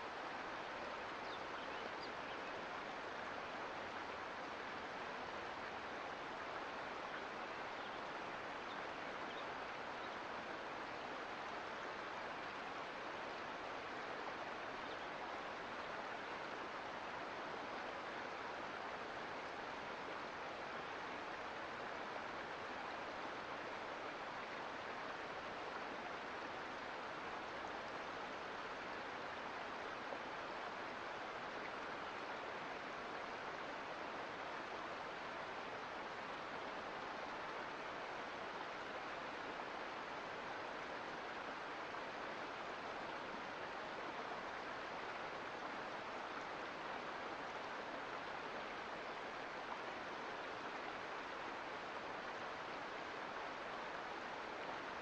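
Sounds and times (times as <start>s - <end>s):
creek flowing over rocks: 0.0s - 55.0s.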